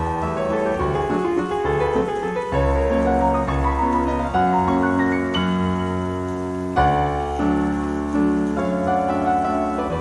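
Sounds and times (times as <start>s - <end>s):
solo piano classical piece: 0.0s - 10.0s.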